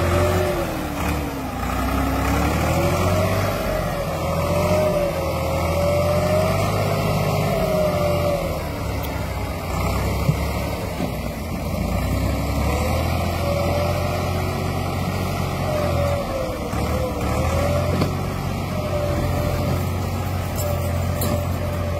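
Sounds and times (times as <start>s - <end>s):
tractor diesel engine under load: 0.0s - 21.9s.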